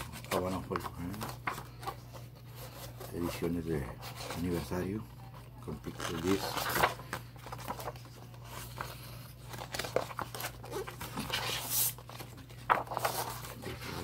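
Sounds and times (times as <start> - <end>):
rustling and crinkling handling: 0.0 - 14.0.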